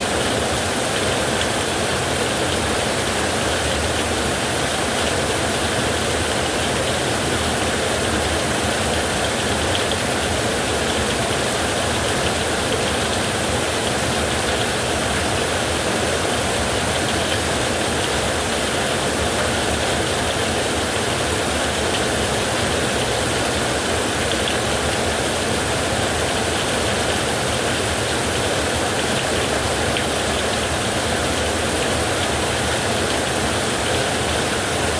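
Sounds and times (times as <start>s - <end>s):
heavy rain on metal roof: 0.0s - 34.9s.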